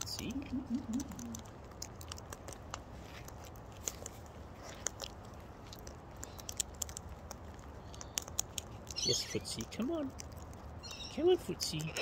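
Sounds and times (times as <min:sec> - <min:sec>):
bird beak crunching food: 0:00.0 - 0:12.0.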